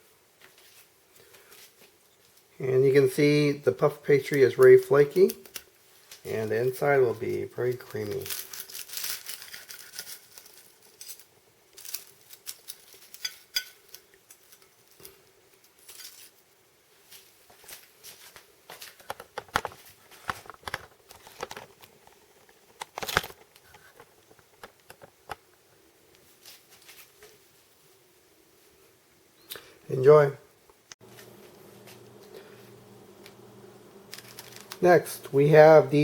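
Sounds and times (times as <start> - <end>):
pastry crackling: 0.4 - 27.7, 31.0 - 36.0.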